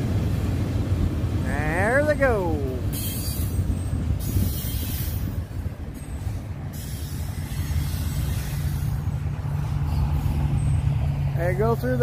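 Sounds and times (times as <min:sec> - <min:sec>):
diesel freight train rumble: 0:00.0 - 0:12.0.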